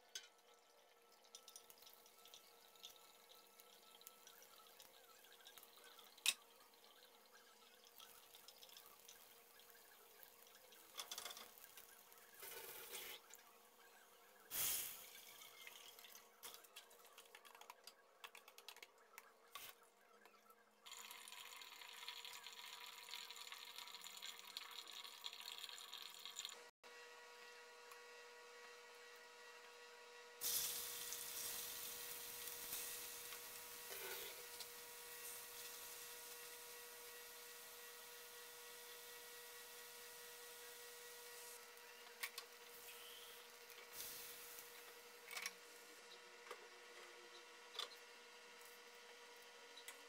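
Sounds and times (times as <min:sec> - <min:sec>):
food sizzling and bubbling: 0:00.1 - 0:18.8, 0:20.9 - 0:26.7, 0:30.4 - 0:47.1.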